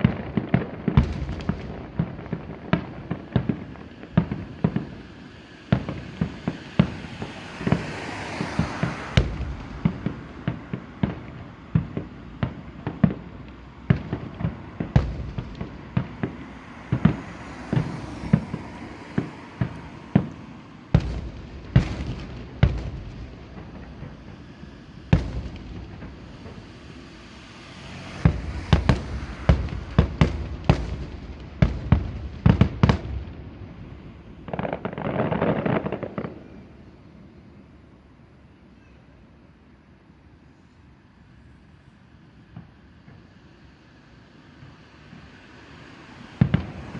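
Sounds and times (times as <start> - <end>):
fireworks banging: 0.0 - 36.9, 44.6 - 46.9.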